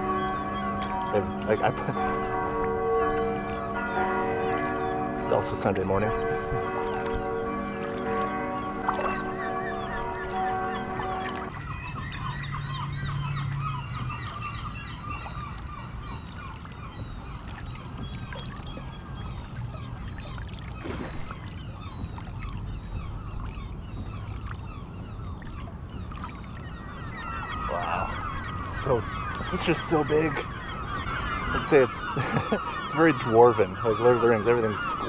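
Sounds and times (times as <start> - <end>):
paddle water splashing and dripping: 0.0 - 35.0.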